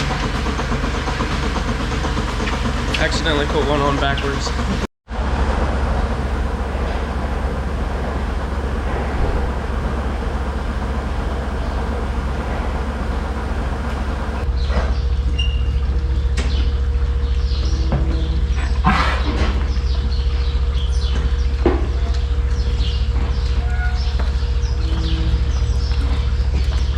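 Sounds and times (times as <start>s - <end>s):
milking equipment droning: 0.0s - 26.9s.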